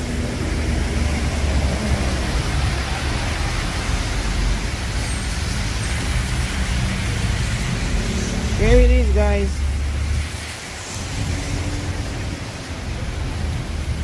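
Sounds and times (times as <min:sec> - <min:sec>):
rain hiss: 0:00.0 - 0:14.0
tyres on wet asphalt: 0:00.0 - 0:14.0.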